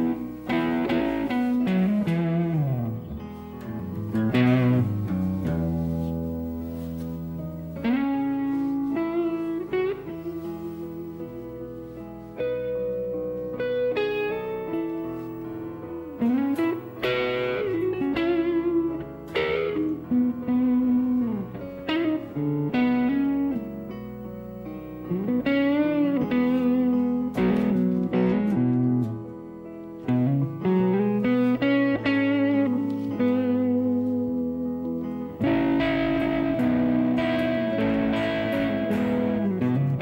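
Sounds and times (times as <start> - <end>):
electric guitar lead line: 0.0 - 40.0.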